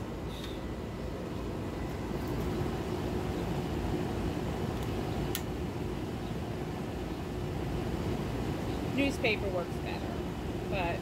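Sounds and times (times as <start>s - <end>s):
air conditioner unit droning: 0.0s - 11.0s
faint hum: 0.0s - 11.0s.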